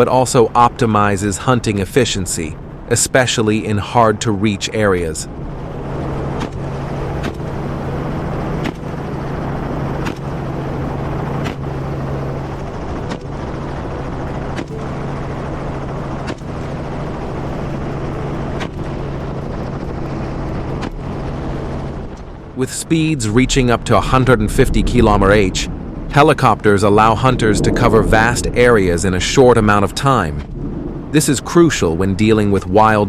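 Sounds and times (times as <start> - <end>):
helicopter running: 0.0 - 33.0.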